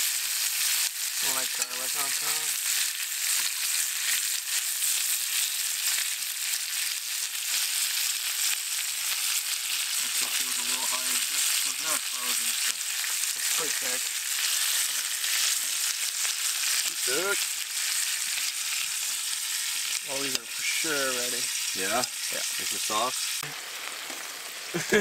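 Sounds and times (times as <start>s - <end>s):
steaks sizzling in a skillet: 0.0s - 25.0s.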